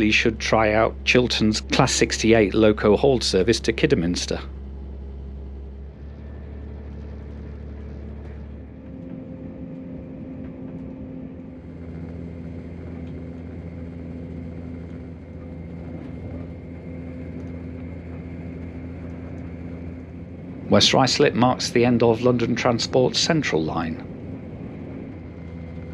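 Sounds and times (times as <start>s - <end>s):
diesel engine drone: 0.0s - 25.9s
train wheels rumbling on track: 0.0s - 25.9s.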